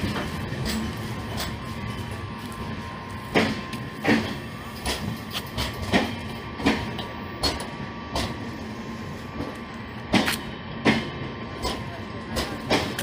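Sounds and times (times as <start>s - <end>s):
train wheels clacking over rail joints: 0.0s - 2.2s, 3.2s - 8.4s, 9.4s - 13.0s
train rolling rumble: 0.0s - 13.0s.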